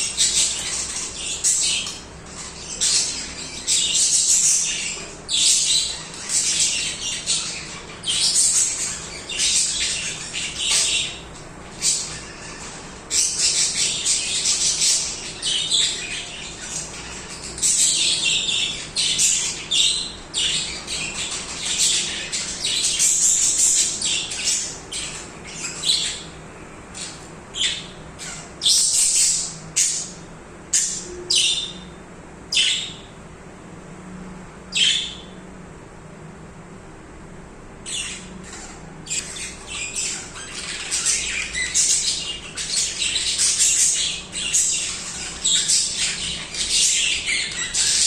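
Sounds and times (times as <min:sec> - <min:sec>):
budgerigars chirping and singing: 0:00.0 - 0:33.2, 0:34.7 - 0:35.4, 0:37.8 - 0:48.0.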